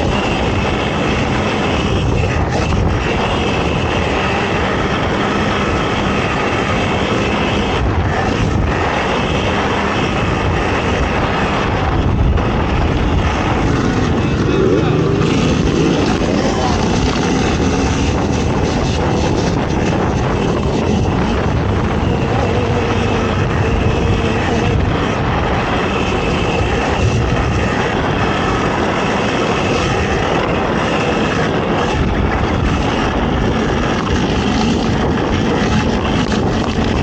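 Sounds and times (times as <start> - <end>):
loud race vehicle engine: 0.0 - 37.0
track and wind noise: 0.0 - 37.0.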